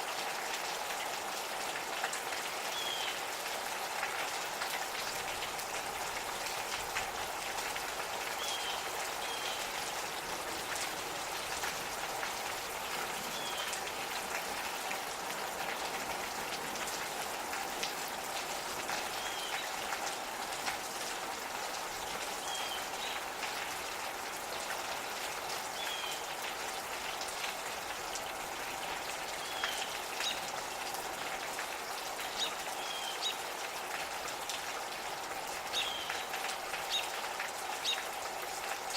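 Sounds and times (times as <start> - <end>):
light rain: 0.0 - 38.9
raindrops ticking on surfaces: 0.0 - 38.9.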